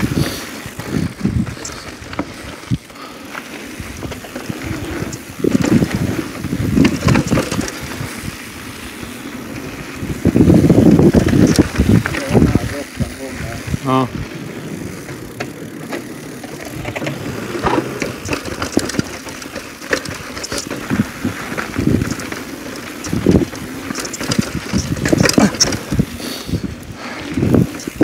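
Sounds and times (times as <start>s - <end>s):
bike knocking and clattering: 0.0s - 8.3s, 9.5s - 26.2s
bike tyres rumbling: 0.0s - 28.0s.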